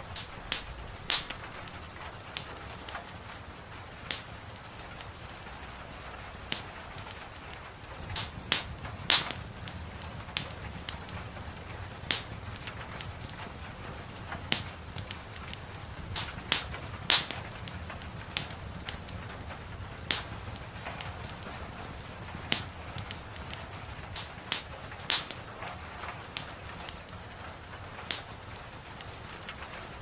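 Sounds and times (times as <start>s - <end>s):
gentle rain hissing: 0.0s - 30.0s
wood fire crackling: 0.0s - 30.0s.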